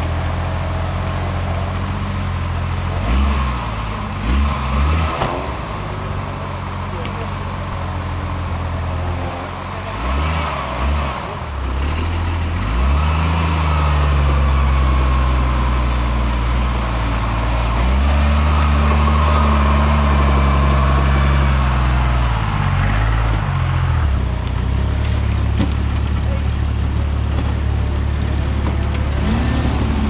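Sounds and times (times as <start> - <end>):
vehicle engine revving: 0.0 - 30.0.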